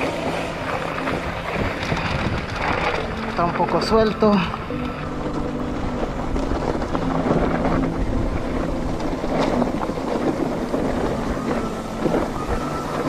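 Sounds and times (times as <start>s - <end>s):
mountain bike rattling on dirt trail: 0.0s - 13.0s
wind rushing over microphone: 0.0s - 13.0s.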